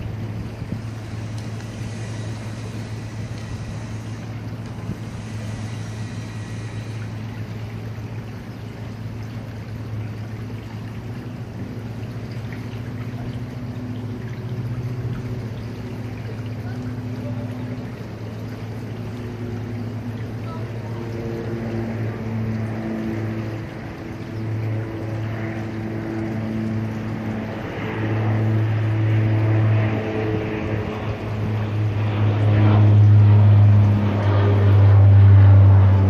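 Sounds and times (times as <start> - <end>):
low engine hum: 0.0 - 36.0
rushing water: 0.0 - 36.0.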